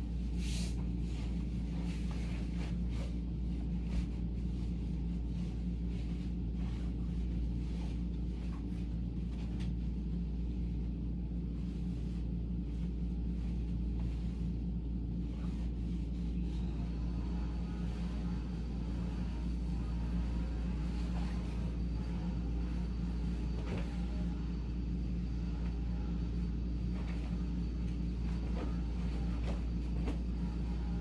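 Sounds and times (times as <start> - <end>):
bed linen rustling: 0.0 - 10.9, 11.5 - 16.7, 17.8 - 24.3, 26.9 - 31.0.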